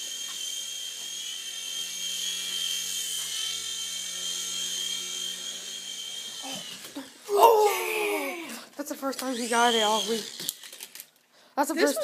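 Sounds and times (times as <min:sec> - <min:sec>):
toy aircraft motor whining: 0:00.0 - 0:08.4, 0:09.0 - 0:11.1.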